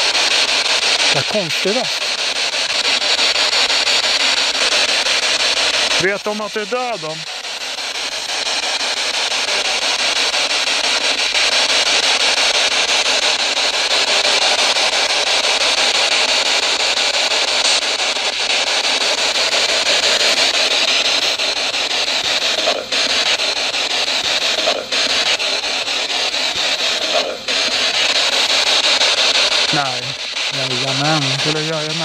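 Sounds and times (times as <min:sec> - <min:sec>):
radio static: 0:00.0 - 0:32.0.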